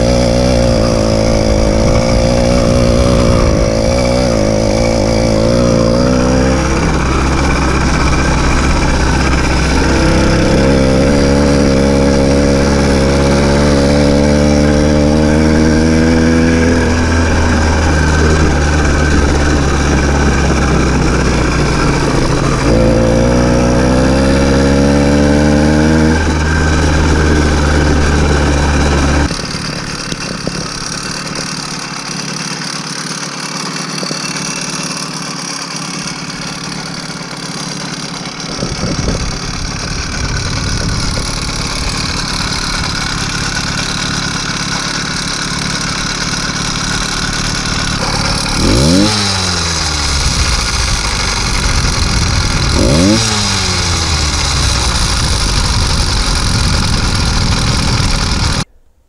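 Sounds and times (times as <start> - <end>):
small engine running: 0.0 - 58.8.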